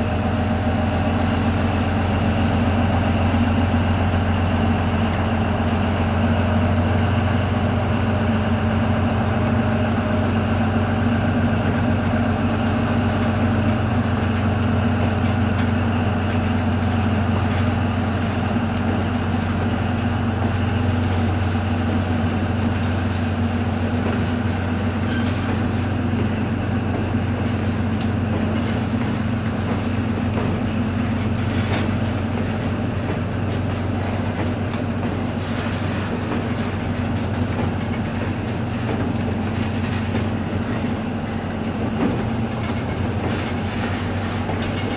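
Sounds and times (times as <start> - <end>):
locomotive engine idling: 0.0 - 44.9
cicadas shrilling: 0.5 - 44.9.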